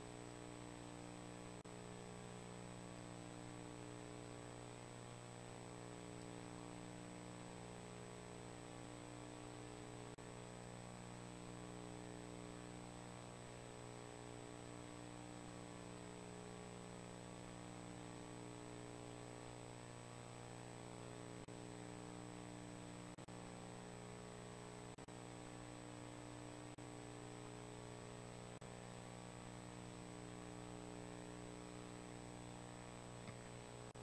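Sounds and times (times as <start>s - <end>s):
electrical mains hum: 0.0s - 34.0s.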